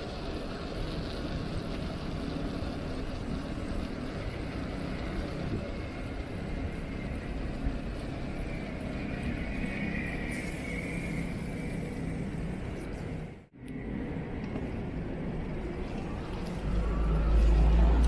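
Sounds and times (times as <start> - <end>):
bicycle tyre rumble: 0.0 - 18.0
wind buffeting microphone: 0.1 - 18.0.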